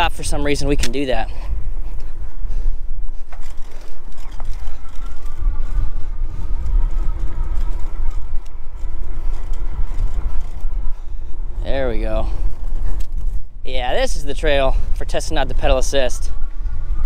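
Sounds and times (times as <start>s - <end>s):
faint electric motor whine: 0.0s - 17.0s
wind rumbling on microphone: 0.0s - 17.0s.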